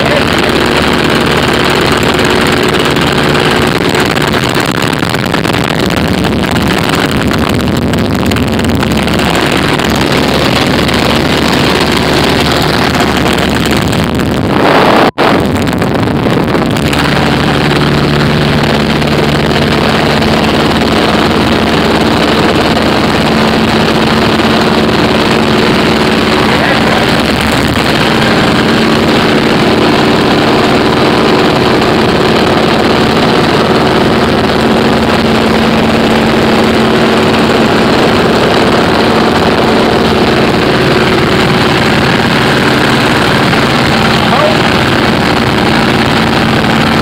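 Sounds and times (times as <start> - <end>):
airplane engine and propeller: 0.0 - 47.0.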